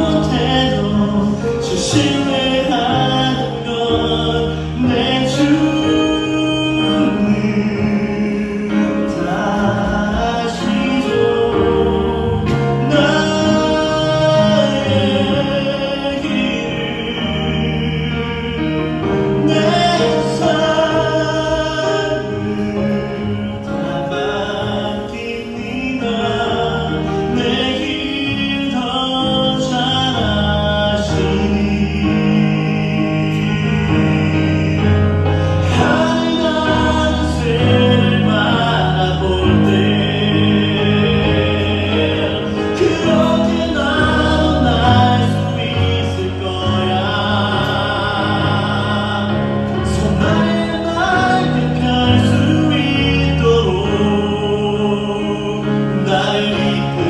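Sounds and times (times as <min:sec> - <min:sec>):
instrumental backing: 0:00.0 - 0:57.0
man singing a slow ballad: 0:00.0 - 0:57.0.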